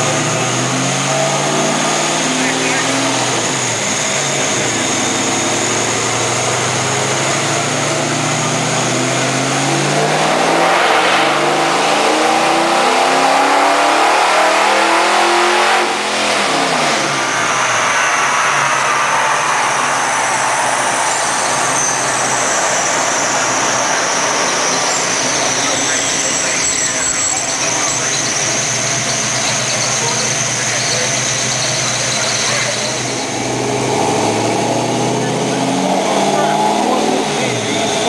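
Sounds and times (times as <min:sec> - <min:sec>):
dyno rollers coasting down: 0:00.0 - 0:38.0
engine revving on dyno: 0:00.0 - 0:38.0.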